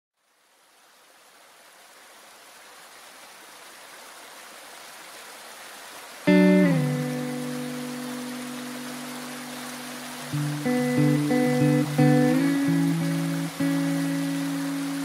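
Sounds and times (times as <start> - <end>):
brook running over stones: 0.2 - 15.0.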